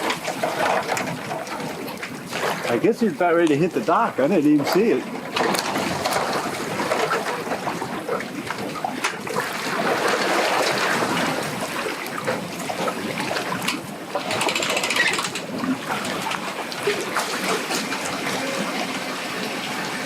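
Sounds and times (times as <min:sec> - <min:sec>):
lake water lapping: 0:00.0 - 0:20.0.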